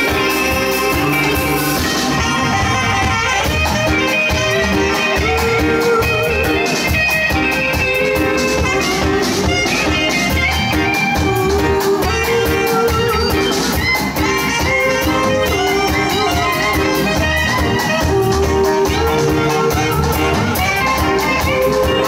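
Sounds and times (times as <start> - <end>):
drum kit: 0.0 - 22.0
electric guitar: 0.0 - 22.0
saxophone long held notes: 0.0 - 22.0.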